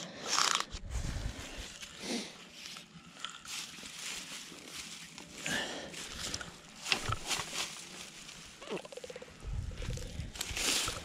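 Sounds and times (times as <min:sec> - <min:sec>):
boots rustling in dry grass: 0:00.8 - 0:11.0.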